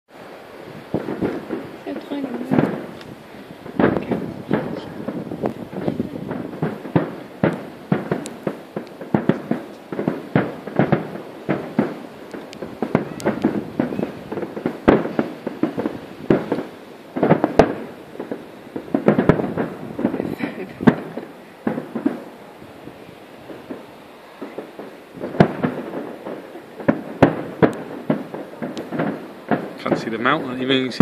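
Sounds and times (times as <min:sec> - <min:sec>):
fireworks bursting: 0:00.1 - 0:31.0.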